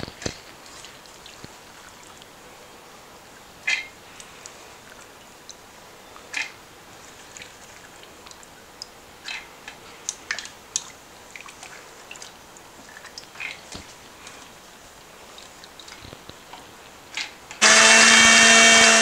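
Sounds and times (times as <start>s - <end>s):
wet lentils clicking and dripping: 0.0s - 17.6s.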